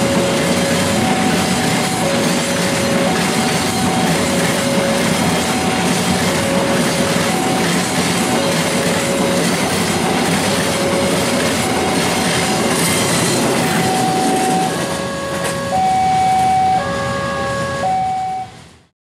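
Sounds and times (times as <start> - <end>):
freight train wheels clattering: 0.0 - 15.7
two-pitch warning tone: 0.0 - 18.7.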